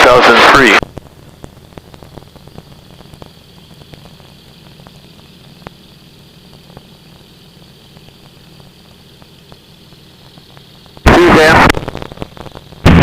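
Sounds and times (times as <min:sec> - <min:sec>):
static crackles: 0:00.0 - 0:13.0.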